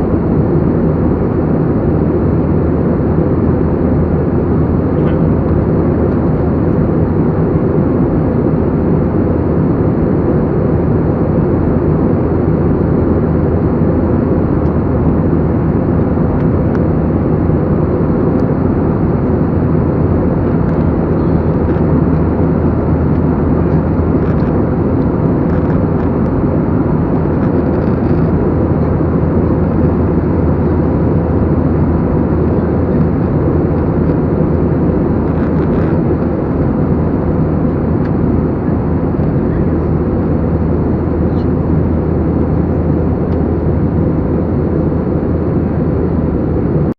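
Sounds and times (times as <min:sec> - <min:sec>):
jet engine cabin rush: 0:00.0 - 0:46.9.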